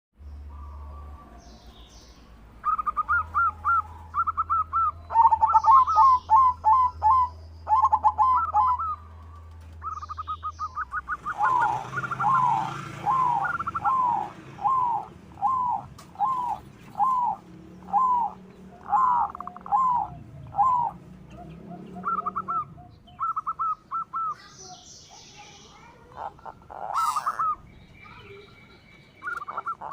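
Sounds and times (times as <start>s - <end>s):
dove cooing: 2.6s - 24.5s, 25.7s - 28.4s, 29.2s - 29.9s.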